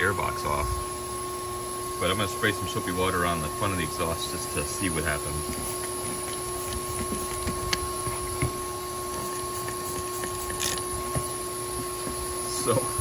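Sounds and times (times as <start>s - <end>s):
shop vac whine: 0.0s - 13.0s.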